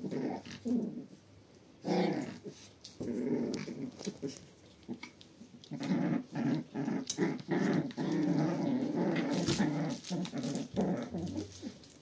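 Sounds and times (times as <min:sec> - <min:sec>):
puppies growling: 0:00.0 - 0:01.2, 0:01.8 - 0:12.0.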